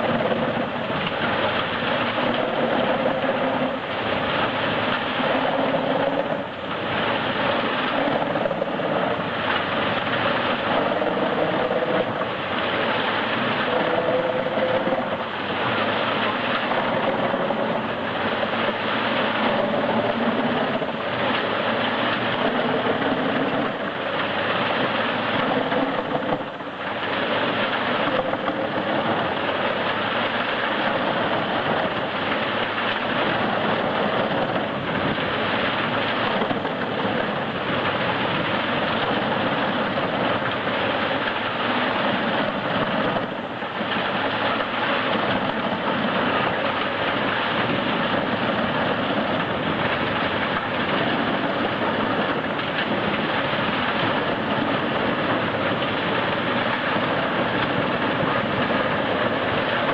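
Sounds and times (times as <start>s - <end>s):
wood chipper chipping wood: 0.0s - 59.9s.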